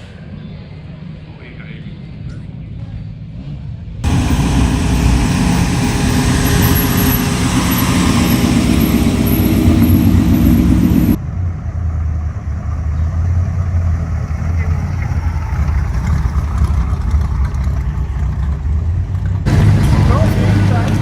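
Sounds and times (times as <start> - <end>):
low steady engine hum: 0.0 - 21.0
vehicle engine running loudly: 3.2 - 21.0.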